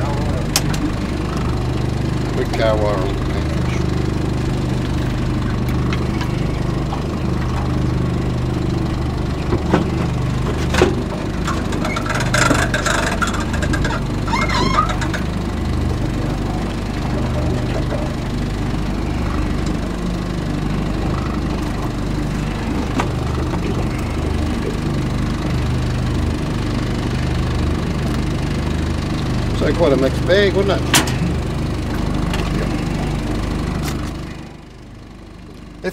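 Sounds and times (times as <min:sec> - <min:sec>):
outboard motor idling: 0:00.0 - 0:35.9.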